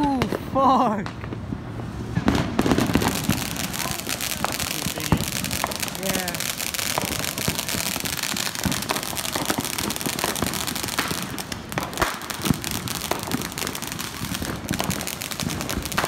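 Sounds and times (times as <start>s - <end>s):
firework bangs: 0.0s - 16.0s
fireworks crackling: 0.0s - 16.0s.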